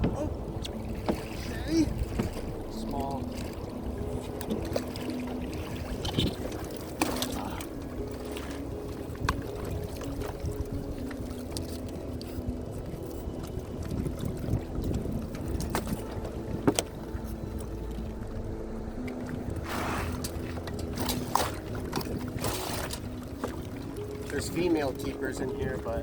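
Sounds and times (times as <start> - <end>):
low rumble of water and wind: 0.0 - 26.0.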